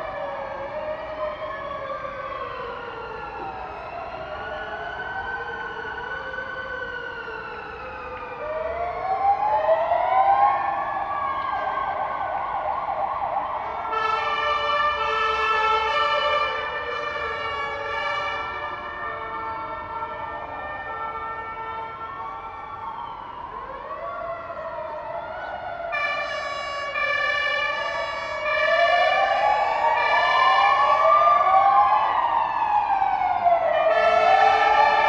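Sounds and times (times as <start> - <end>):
fire engine sirens wailing: 0.0 - 35.0.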